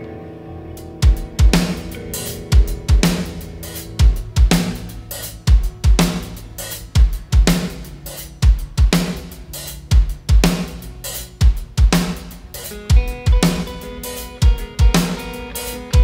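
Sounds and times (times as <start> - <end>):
low bass notes: 0.0 - 16.0
hi-hat: 1.0 - 16.0.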